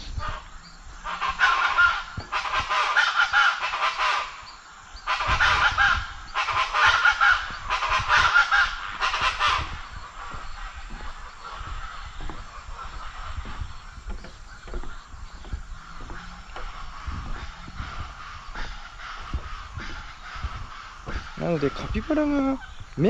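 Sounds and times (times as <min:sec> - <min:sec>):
harsh bird calls: 0:00.0 - 0:23.0.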